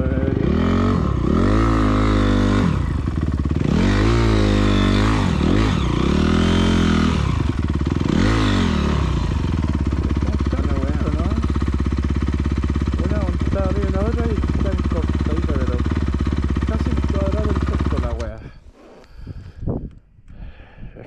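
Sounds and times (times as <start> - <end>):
dirt bike engine revving and idling: 0.0 - 18.7.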